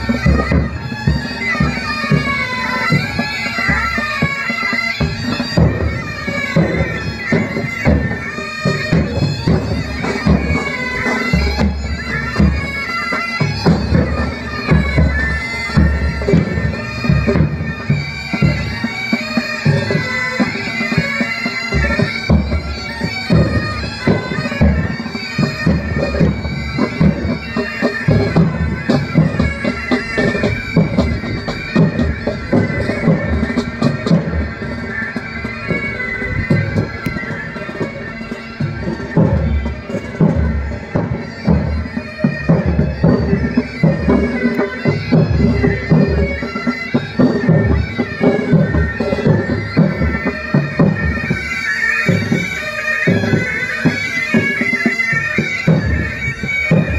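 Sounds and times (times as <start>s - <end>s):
bagpipes playing over drone: 0.0s - 56.9s
drums beating march rhythm: 0.0s - 56.9s.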